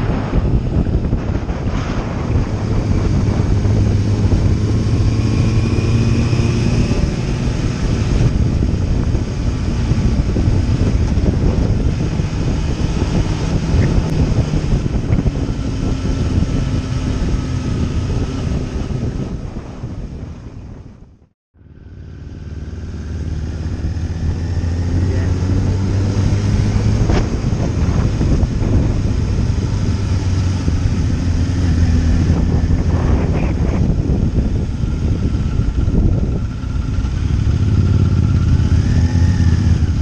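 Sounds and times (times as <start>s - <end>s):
wind rush on microphone: 0.0s - 21.4s, 22.4s - 40.0s
motorcycle engine cruising: 0.0s - 40.0s.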